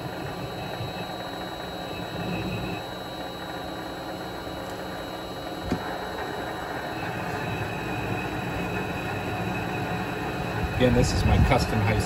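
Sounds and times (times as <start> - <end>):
lathe motor and gear hum: 0.0 - 12.0.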